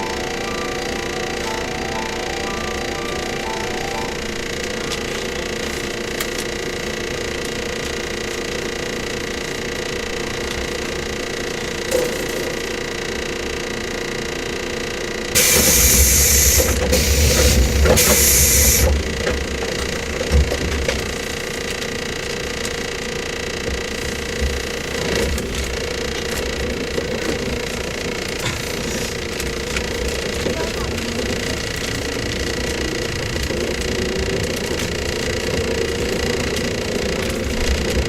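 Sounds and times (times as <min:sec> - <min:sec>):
train motor hum: 0:00.0 - 0:38.0.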